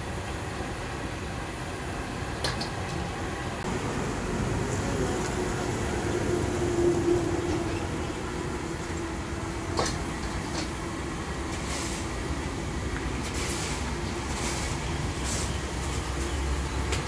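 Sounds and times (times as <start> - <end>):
steady low rumble: 3.1 - 16.9.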